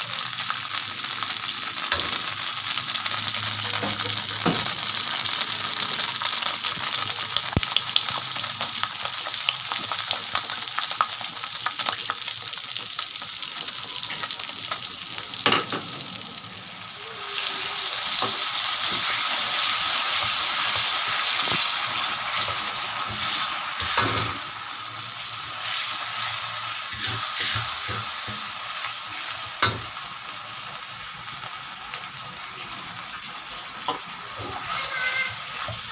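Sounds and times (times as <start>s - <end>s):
noodles sizzling in a pan: 0.0s - 35.9s.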